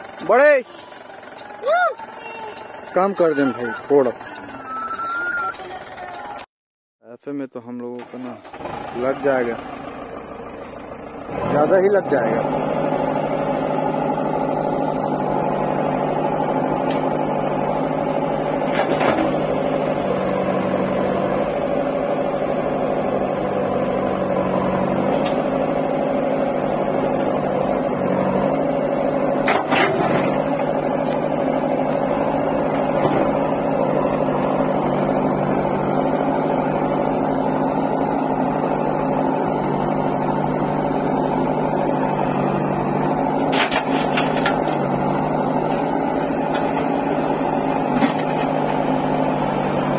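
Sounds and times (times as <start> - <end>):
diesel engine idling: 0.0 - 6.5, 7.1 - 49.9.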